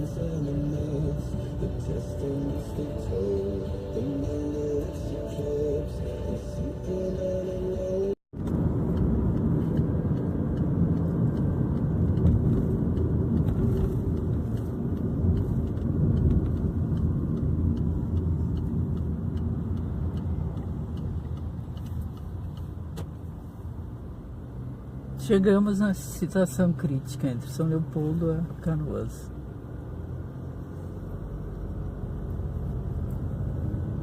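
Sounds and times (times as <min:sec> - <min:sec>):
car engine and tyres rumbling: 0:00.0 - 0:34.0.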